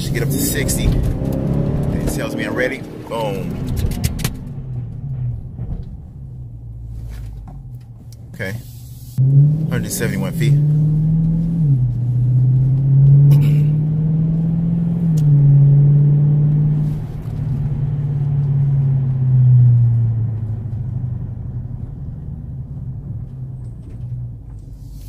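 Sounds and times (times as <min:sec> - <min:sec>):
car engine accelerating: 0:00.0 - 0:08.5, 0:09.2 - 0:25.0.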